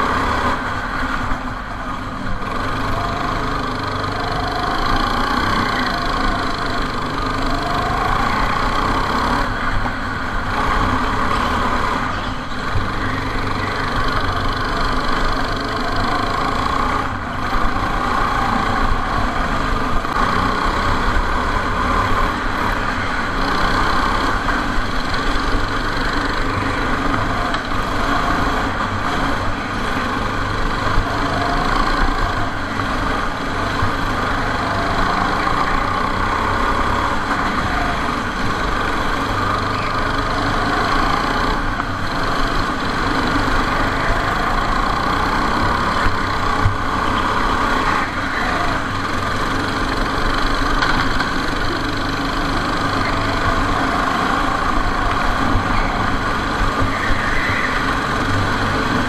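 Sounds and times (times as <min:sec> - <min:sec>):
go-kart engine droning: 0:00.0 - 0:59.0.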